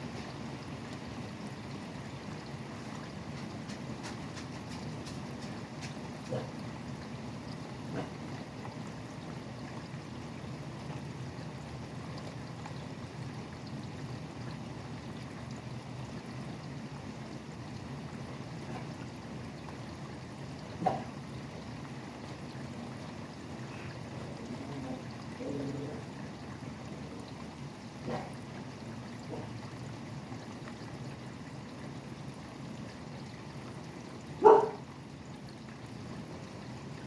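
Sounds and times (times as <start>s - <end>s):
steady rain: 0.0s - 30.3s.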